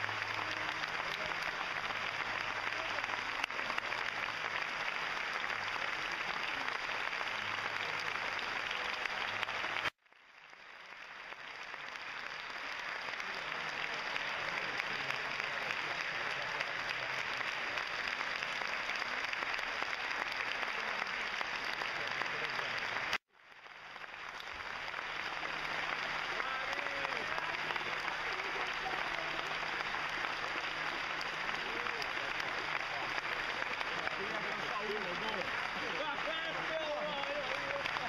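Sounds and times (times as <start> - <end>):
audience applauding: 0.0 - 38.0.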